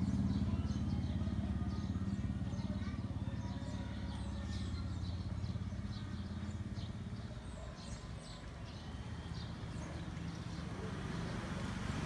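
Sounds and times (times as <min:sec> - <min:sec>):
low pulsing engine rumble: 0:00.0 - 0:12.0.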